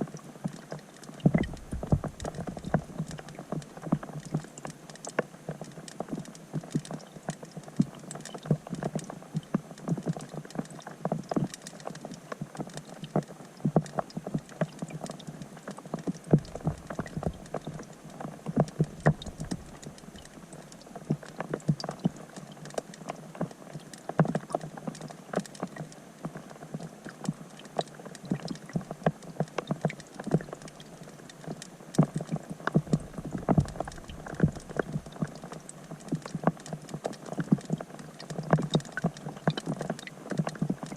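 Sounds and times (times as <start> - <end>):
rain on pond heard underwater: 0.0 - 40.9.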